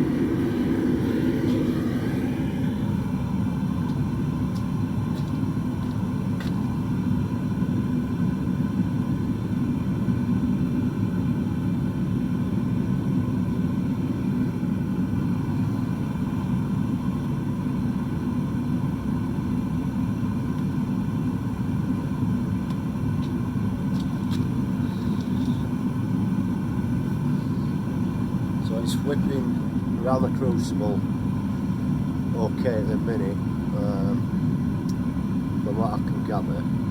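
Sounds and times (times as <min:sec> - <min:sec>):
furnace burner roaring: 0:00.0 - 0:36.9.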